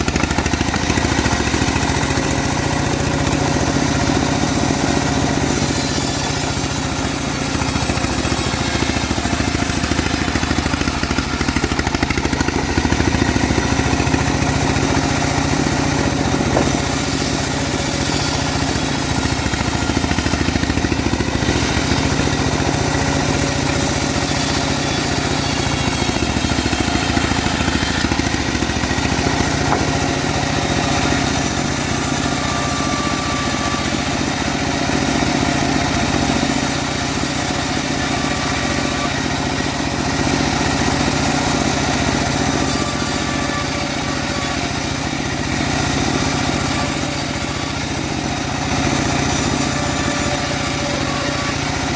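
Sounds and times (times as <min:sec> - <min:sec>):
saw cutting hiss: 0:00.0 - 0:51.9
sawmill engine drone: 0:00.0 - 0:51.9.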